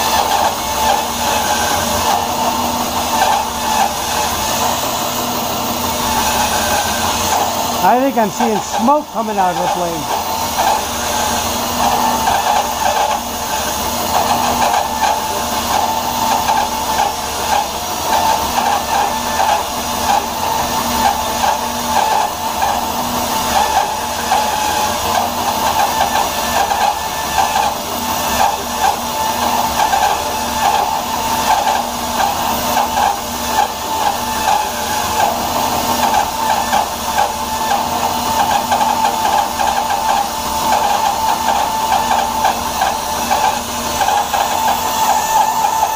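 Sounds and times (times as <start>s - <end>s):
bandsaw cutting wood: 0.0s - 45.9s.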